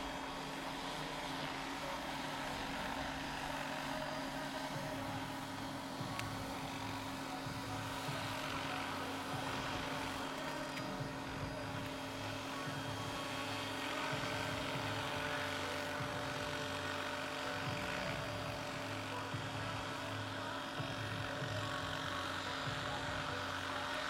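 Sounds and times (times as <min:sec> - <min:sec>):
electric drive whine: 0:00.0 - 0:24.0
rotor blades chopping: 0:00.0 - 0:24.0.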